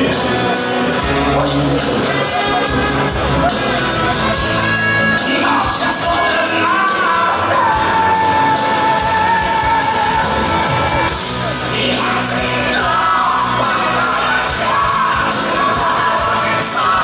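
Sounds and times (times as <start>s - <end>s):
live pop-rock band playing: 0.0s - 17.0s.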